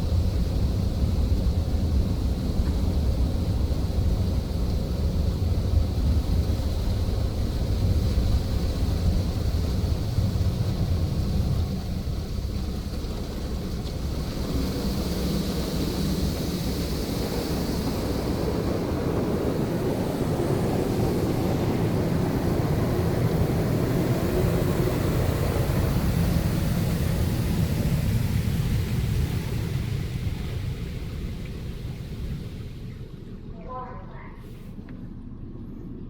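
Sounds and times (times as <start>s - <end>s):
car wash machine rumble: 0.0s - 36.0s.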